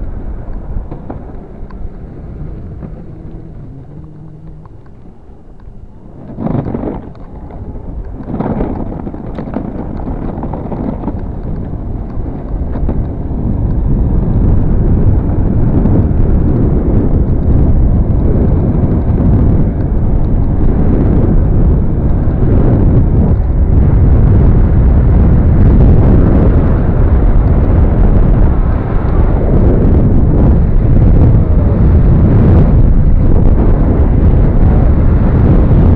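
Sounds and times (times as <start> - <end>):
wind rumble on microphone: 0.0 - 35.9.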